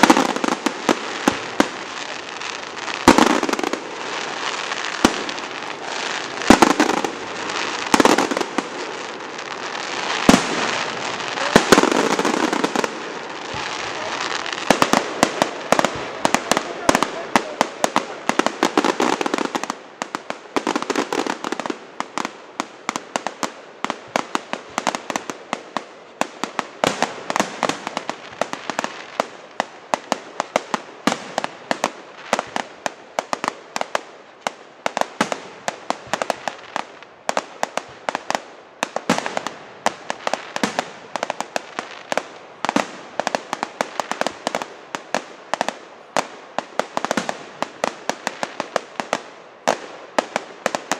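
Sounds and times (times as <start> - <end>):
firework bangs and crackles: 0.0 - 50.9.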